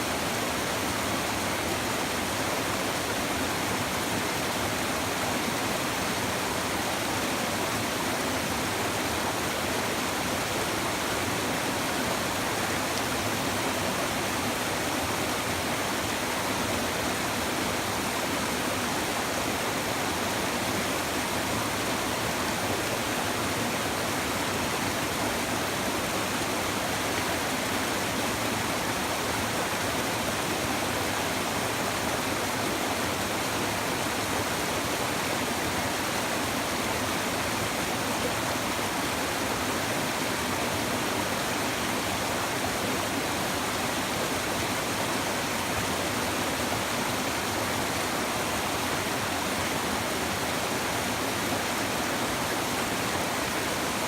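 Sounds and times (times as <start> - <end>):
river babbling: 0.0 - 54.0.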